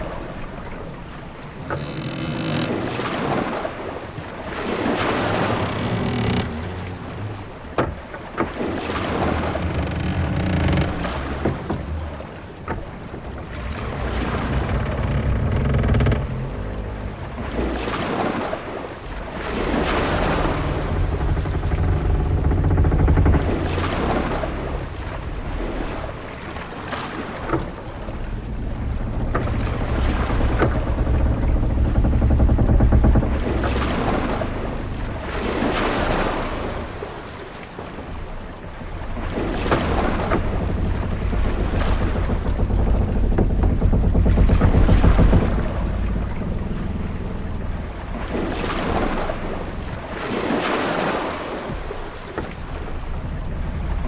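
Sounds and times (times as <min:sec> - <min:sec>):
waves washing against ship: 0:00.0 - 0:54.0
sharp knocks: 0:04.6 - 0:18.5, 0:19.2 - 0:37.0, 0:37.9 - 0:51.0.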